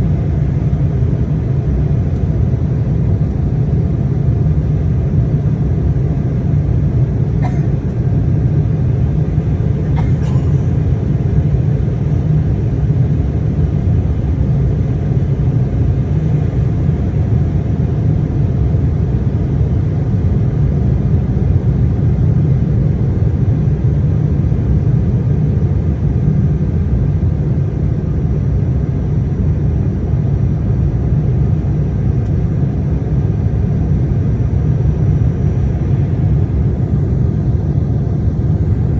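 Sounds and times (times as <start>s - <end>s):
jet engines low rumble: 0.0s - 38.9s.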